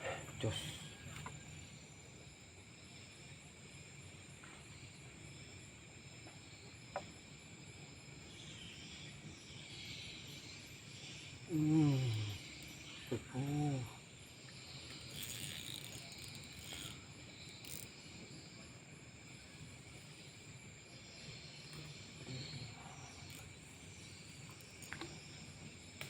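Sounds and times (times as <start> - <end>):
night insects chirping: 0.0 - 26.0.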